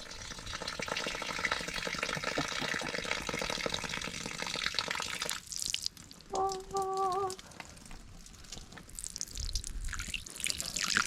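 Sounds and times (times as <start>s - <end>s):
water dripping: 0.0s - 11.0s
water pouring into gutter: 0.0s - 11.0s.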